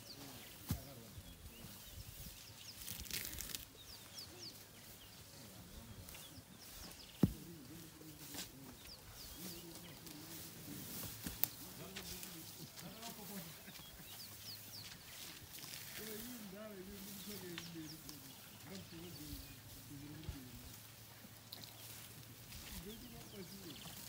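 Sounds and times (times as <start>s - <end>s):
rustling in bush: 0.0s - 24.0s
small birds chirping: 0.0s - 24.0s.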